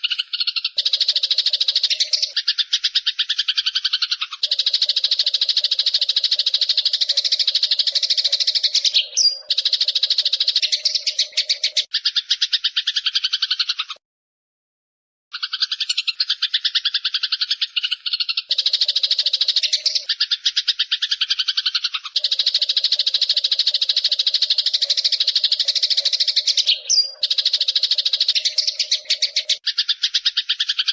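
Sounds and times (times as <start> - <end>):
sparrow chattering trill: 0.0 - 14.0, 15.3 - 30.9.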